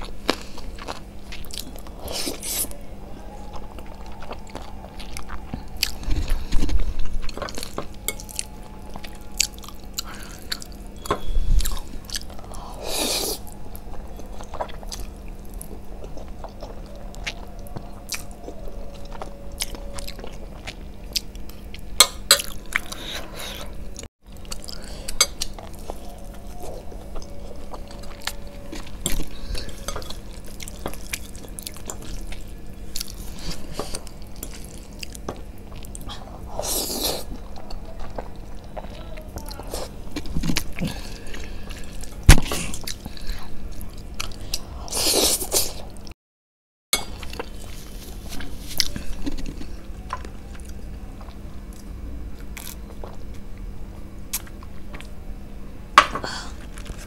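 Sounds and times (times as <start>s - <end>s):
chewing noodles close up: 0.0s - 46.1s.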